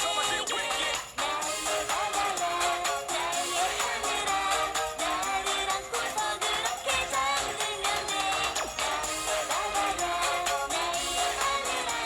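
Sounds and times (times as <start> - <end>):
upbeat dance pop song: 0.0 - 12.0.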